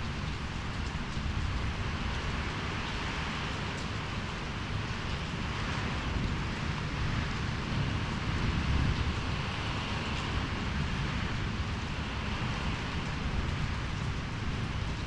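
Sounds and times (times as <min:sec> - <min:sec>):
steady rush of rain: 0:00.0 - 0:15.0
wind buffeting microphone: 0:00.1 - 0:15.0.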